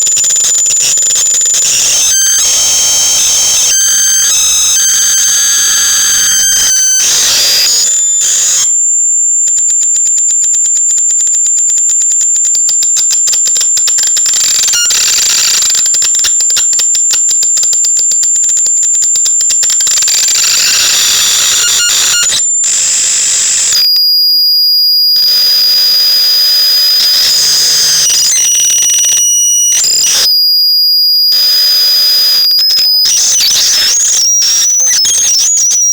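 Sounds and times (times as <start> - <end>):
electronic noise generator tones: 0.0 - 8.8, 10.8 - 35.9.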